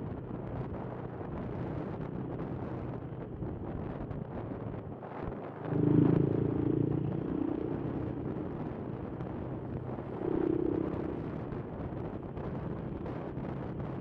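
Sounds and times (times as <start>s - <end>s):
motorcycle engine accelerating: 0.8s - 14.0s.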